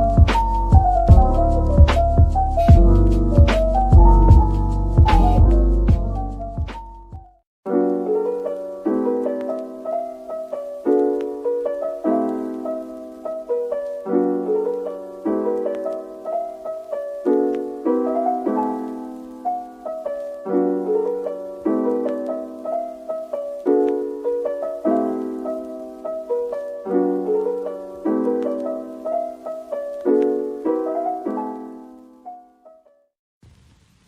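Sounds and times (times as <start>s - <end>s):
gentle piano chords: 0.0s - 33.1s.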